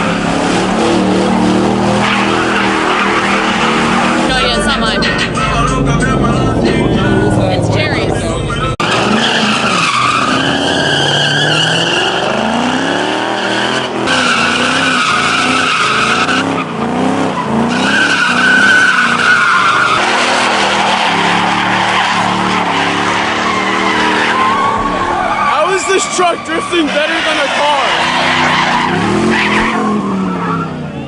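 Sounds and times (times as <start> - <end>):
car engine revving: 0.0 - 31.0
tyres squealing: 1.8 - 7.3, 8.5 - 16.7, 17.3 - 31.0.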